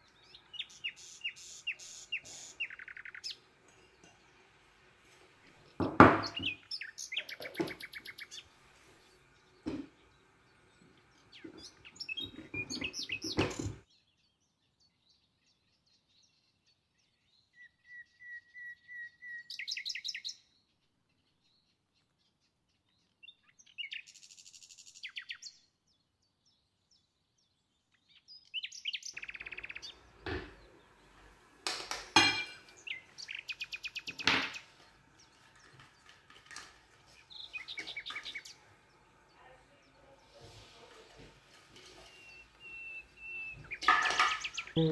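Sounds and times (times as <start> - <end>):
songbird trilling and chirping: 0.0 - 4.5, 5.8 - 31.2, 32.3 - 40.7, 41.8 - 44.9.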